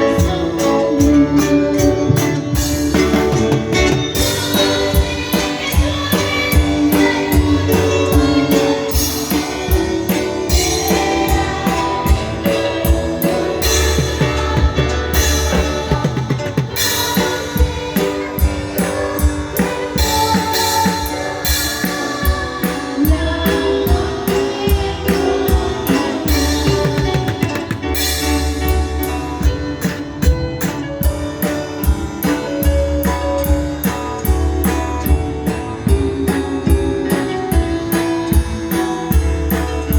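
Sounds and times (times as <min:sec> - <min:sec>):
music with drums and guitar: 0:00.0 - 0:39.9.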